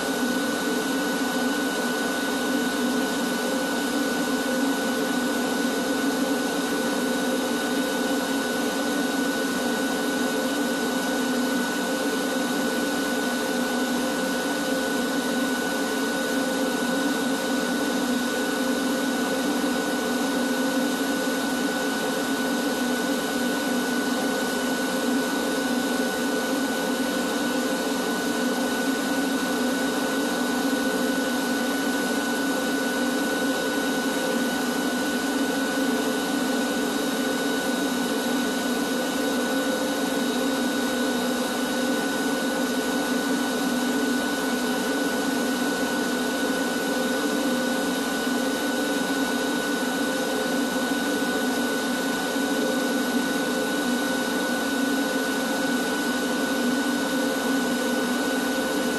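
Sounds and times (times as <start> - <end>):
shop vacuum running: 0.0 - 58.9.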